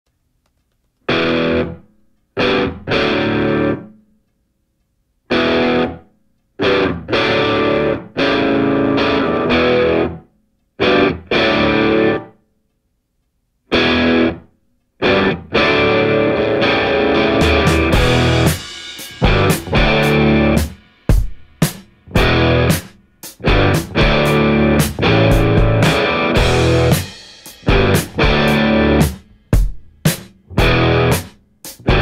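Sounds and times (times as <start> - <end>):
distorted electric guitar chords: 1.1 - 1.8, 2.4 - 3.9, 5.3 - 6.0, 6.6 - 10.2, 10.8 - 12.4, 13.7 - 29.7, 30.4 - 32.0.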